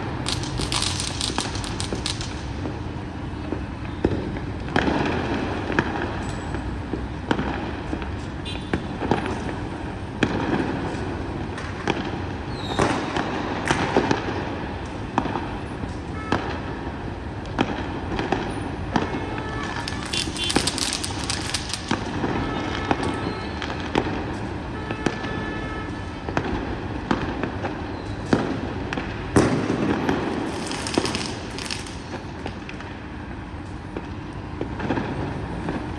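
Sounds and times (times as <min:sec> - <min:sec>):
firework bangs: 0:00.0 - 0:15.6, 0:16.2 - 0:35.9
city traffic noise: 0:00.0 - 0:35.9
firecrackers crackling: 0:00.0 - 0:35.9.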